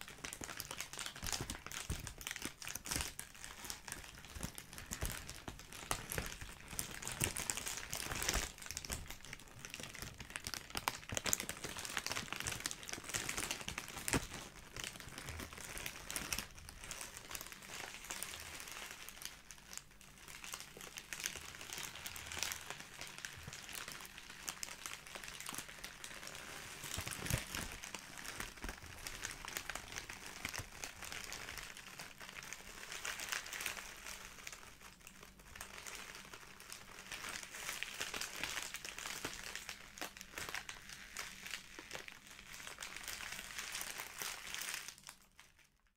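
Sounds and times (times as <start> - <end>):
plastic bag crinkling: 0.0 - 45.9.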